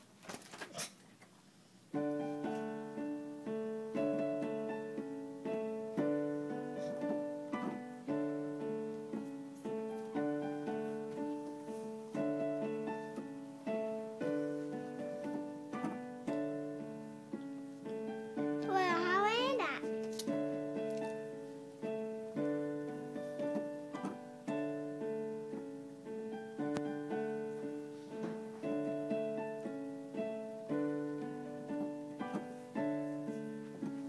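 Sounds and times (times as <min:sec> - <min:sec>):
digital piano melody over chords: 0:01.9 - 0:34.0.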